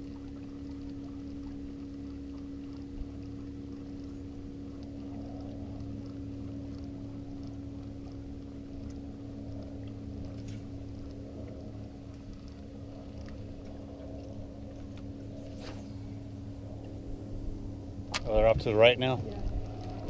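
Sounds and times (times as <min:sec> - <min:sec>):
faint ticks: 0:00.0 - 0:17.0
boat motor humming: 0:00.0 - 0:20.0.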